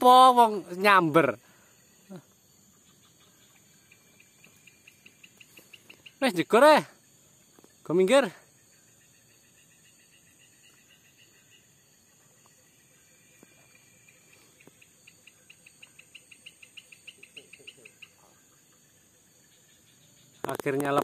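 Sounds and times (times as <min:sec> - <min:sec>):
insect hum: 0:00.0 - 0:21.0
short chirping calls: 0:00.2 - 0:21.0.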